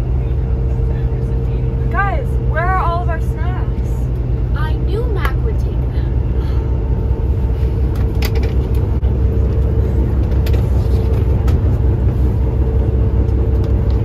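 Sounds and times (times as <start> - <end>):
bus low rumble: 0.0 - 14.0.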